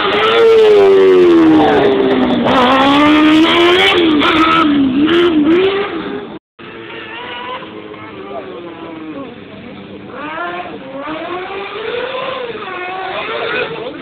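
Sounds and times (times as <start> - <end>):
racing buggy engine revving: 0.0 - 14.0.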